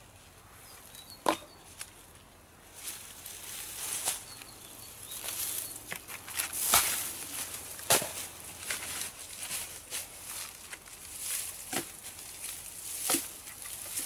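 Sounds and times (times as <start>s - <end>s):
rustling through dry twigs: 0.1s - 14.0s.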